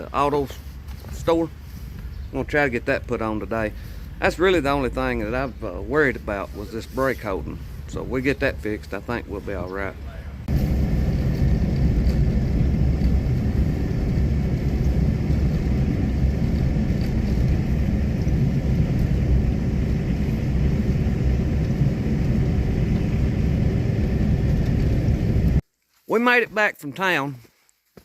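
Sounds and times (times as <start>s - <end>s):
vehicle road and engine rumble: 0.0s - 25.6s.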